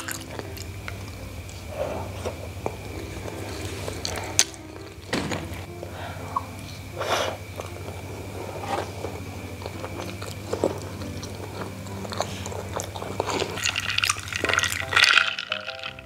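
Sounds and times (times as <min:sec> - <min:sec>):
steady low hum: 0:00.0 - 0:14.6
close-up chewing: 0:00.0 - 0:16.0.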